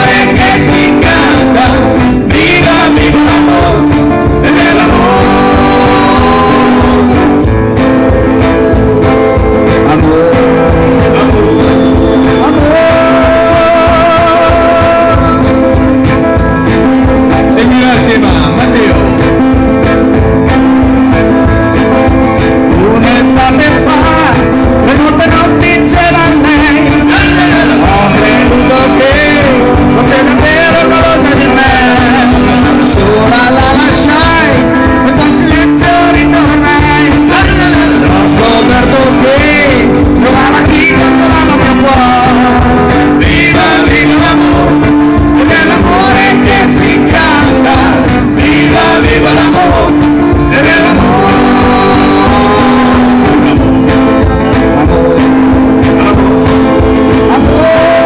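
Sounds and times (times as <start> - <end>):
acoustic guitars strumming: 0.0 - 58.0
cajon beat: 0.0 - 58.0
man singing: 0.0 - 58.0.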